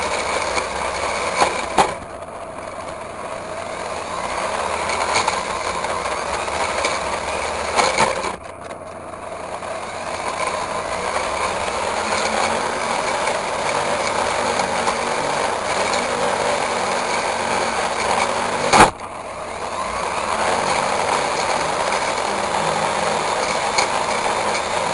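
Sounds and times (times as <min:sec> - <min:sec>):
brush cutter running under load: 0:00.0 - 0:24.9.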